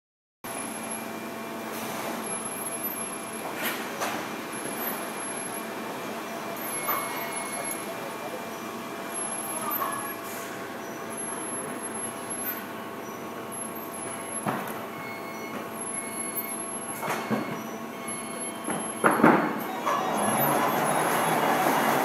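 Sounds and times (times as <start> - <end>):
machinery humming: 4.4 - 22.0.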